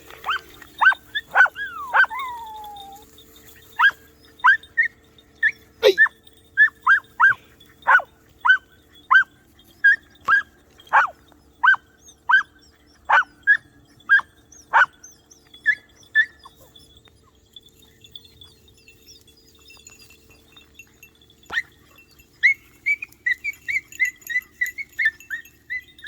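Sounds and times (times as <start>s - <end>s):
puppies yelping: 0.0s - 17.5s, 21.5s - 26.0s.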